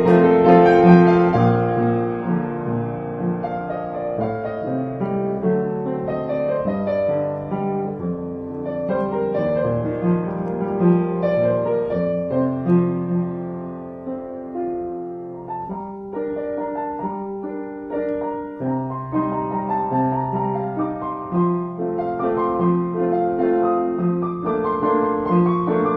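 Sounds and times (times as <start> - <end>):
solo piano: 0.0 - 25.9.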